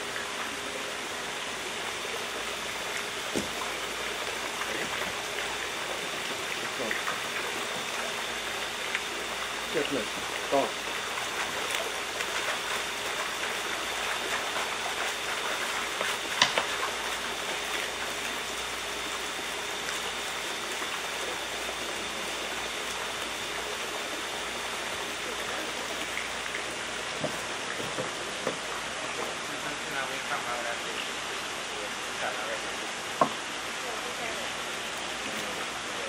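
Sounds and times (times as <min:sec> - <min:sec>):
people wading through water: 0:00.0 - 0:30.7
water jets splashing into tank: 0:00.0 - 0:36.0.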